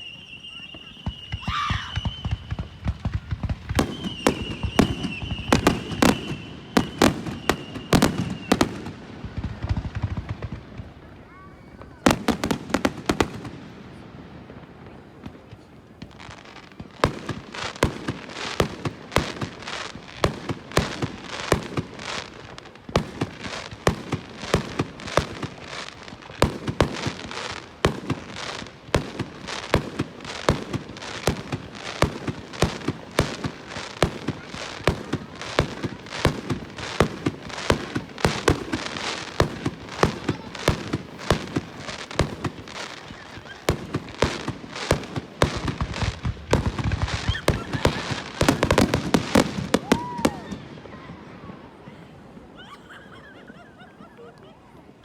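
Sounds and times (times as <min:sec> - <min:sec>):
fireworks bursting: 0:00.0 - 0:52.5
fireworks crackling: 0:00.0 - 0:55.0.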